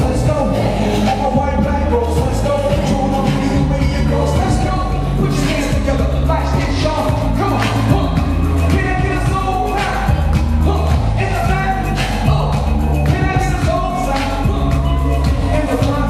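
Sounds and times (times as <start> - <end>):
live hip-hop concert music: 0.0 - 16.0
person singing or rapping: 0.0 - 16.0.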